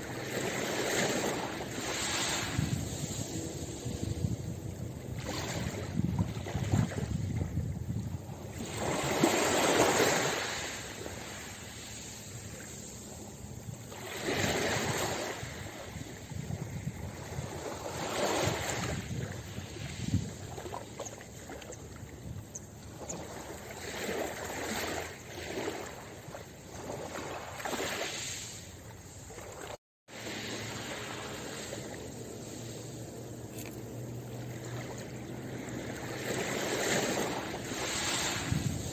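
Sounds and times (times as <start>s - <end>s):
waves lapping on pebble beach: 0.0s - 7.6s, 8.4s - 38.9s.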